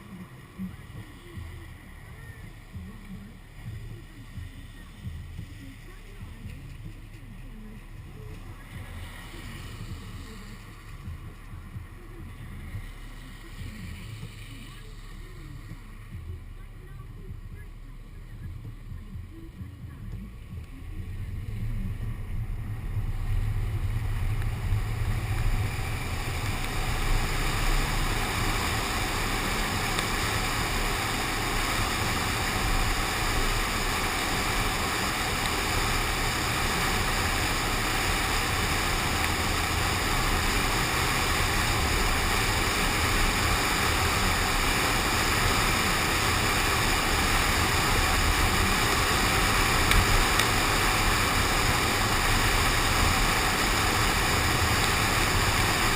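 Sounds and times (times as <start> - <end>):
tyre spray on wet road: 0.0 - 16.4, 20.9 - 55.9
rain and wind against window: 0.0 - 55.9.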